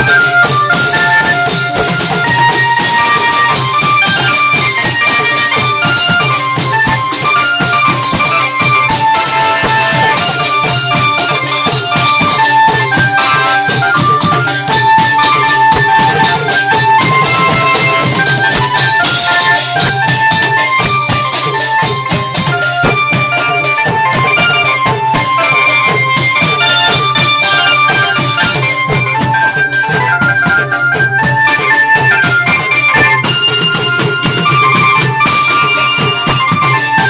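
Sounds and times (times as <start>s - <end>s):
fast drumming: 0.0s - 37.0s
melody of held notes: 0.0s - 37.0s.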